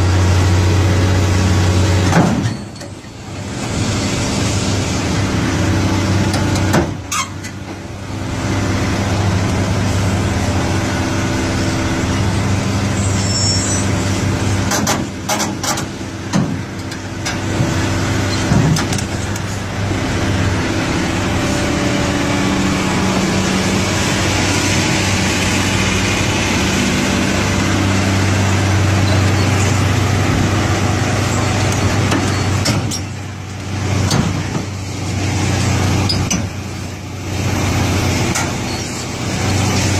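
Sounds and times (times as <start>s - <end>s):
excavator diesel engine under load: 0.0s - 39.9s.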